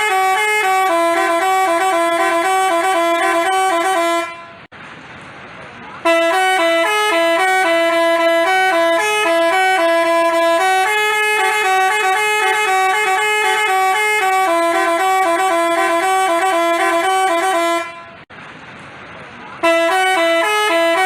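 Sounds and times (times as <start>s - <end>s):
musical air horn tune: 0.0s - 4.7s, 6.0s - 18.2s, 19.6s - 21.0s.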